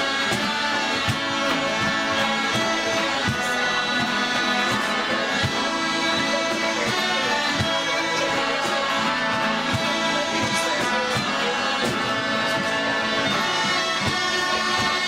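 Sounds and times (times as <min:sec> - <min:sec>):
bagpipe drones: 0:00.0 - 0:15.0
smallpipes melody: 0:00.0 - 0:15.0.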